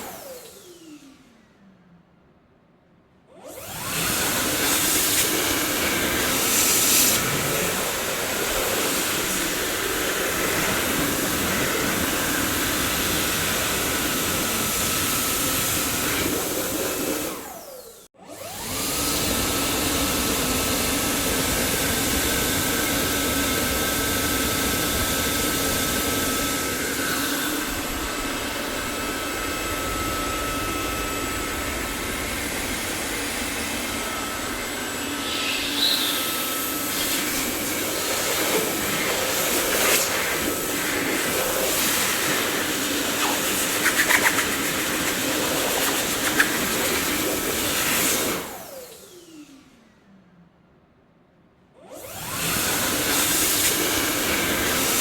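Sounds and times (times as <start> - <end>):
vacuum cleaner running: 0.0 - 1.7, 3.3 - 50.0, 51.8 - 55.0.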